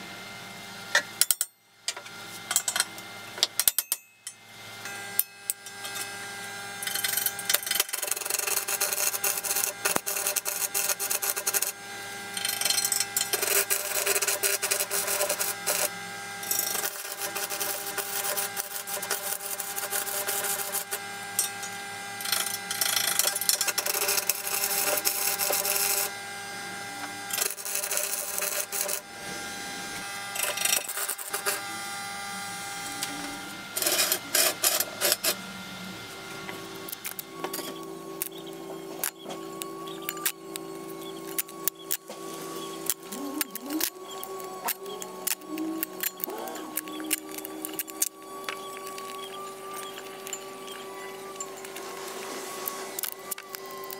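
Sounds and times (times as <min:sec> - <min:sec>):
welding arc crackling and hissing: 0:04.8 - 0:35.4, 0:36.0 - 0:53.9.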